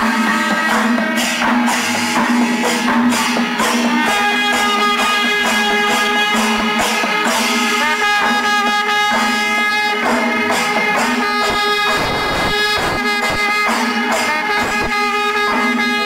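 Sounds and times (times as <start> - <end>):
held instrumental notes: 0.0 - 16.0
percussion strikes: 0.0 - 16.0.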